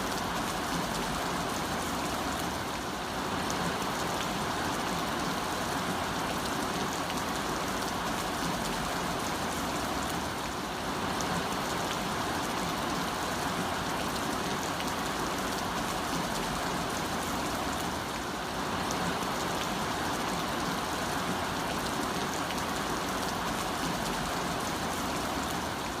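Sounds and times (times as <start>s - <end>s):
heavy rain on a road: 0.0s - 26.0s.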